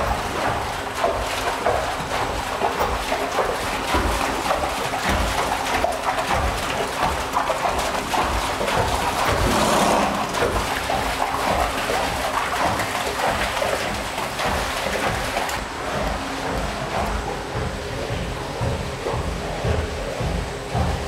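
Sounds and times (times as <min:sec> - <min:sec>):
water rushing and splashing: 0:00.0 - 0:20.8.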